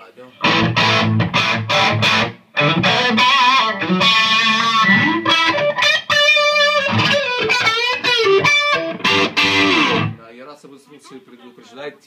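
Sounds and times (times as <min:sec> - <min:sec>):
overdriven electric guitar lead: 0:00.4 - 0:10.2.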